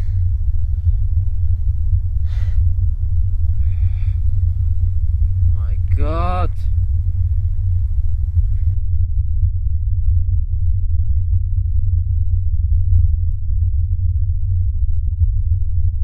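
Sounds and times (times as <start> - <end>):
deep bass drone: 0.0 - 16.0.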